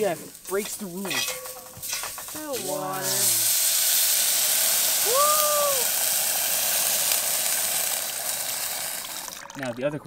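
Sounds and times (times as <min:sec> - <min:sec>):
water hissing in hot pot: 0:00.0 - 0:10.0.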